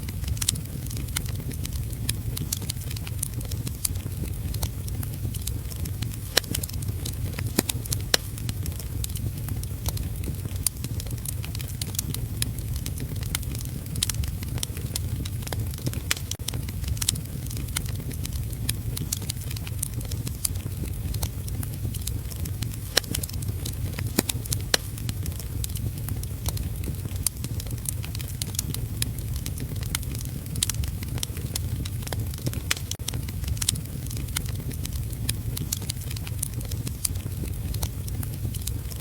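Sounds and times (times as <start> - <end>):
heavy rain rumble: 0.0 - 39.0
wood fire crackling: 0.0 - 39.0.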